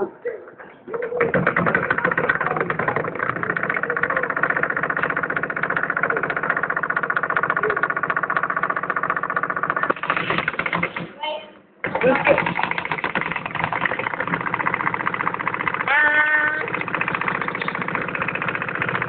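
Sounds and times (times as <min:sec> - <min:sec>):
shake table rattling buzz: 0:00.9 - 0:11.2, 0:11.8 - 0:19.0.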